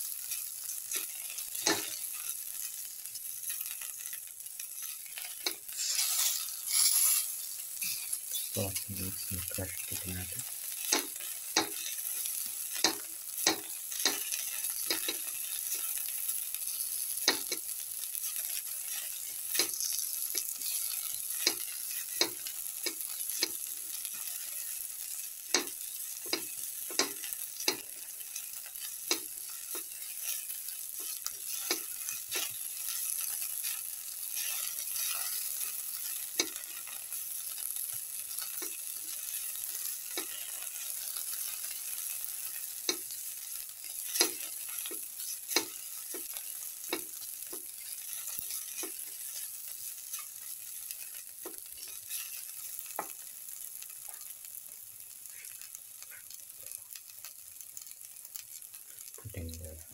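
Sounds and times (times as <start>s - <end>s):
oil sizzling in a pan: 0.0s - 59.9s.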